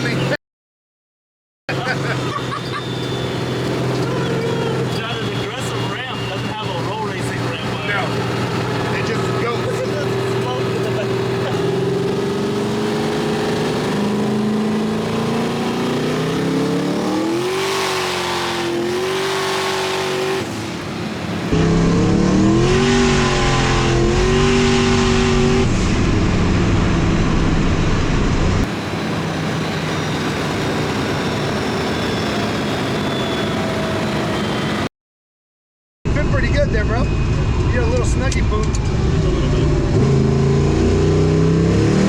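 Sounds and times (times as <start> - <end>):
road and wind noise: 1.7 - 34.9, 36.1 - 42.0
truck engine revving hard: 1.7 - 34.9, 39.0 - 42.0.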